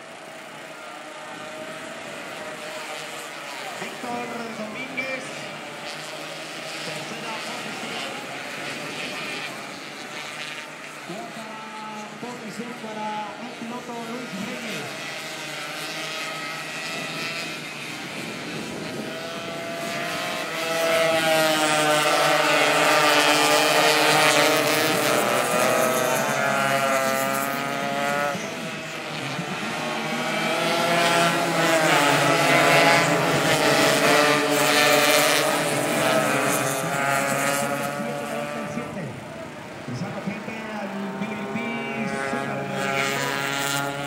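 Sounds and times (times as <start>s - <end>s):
racing motorcycles passing: 0.0s - 44.0s.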